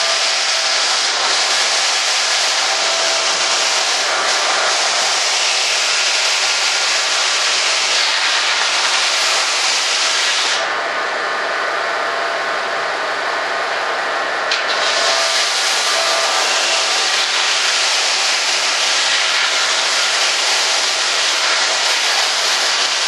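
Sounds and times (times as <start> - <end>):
power sander hissing: 0.0 - 10.7, 14.5 - 23.0.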